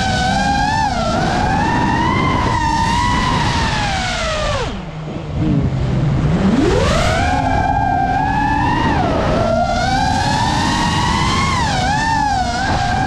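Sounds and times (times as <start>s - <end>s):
drone motors whining: 0.0s - 13.0s
rush of wind: 0.0s - 13.0s.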